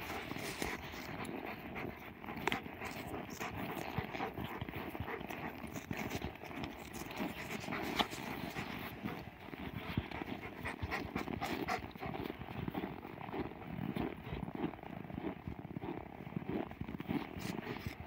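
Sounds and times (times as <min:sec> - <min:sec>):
dog panting: 0:00.0 - 0:18.0
footsteps crunching in snow: 0:00.0 - 0:18.0.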